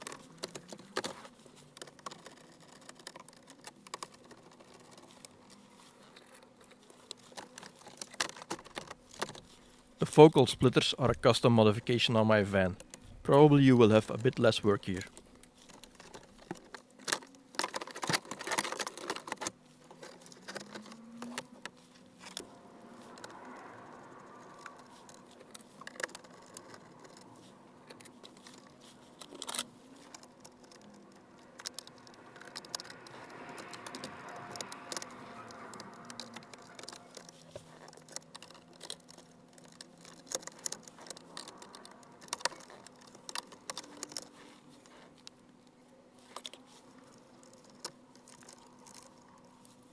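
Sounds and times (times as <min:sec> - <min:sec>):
faint steady hum: 0:00.0 - 0:49.9
soft rustling: 0:00.0 - 0:49.9.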